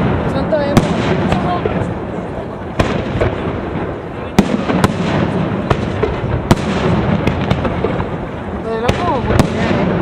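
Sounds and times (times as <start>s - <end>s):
dense din of explosions: 0.0s - 10.0s.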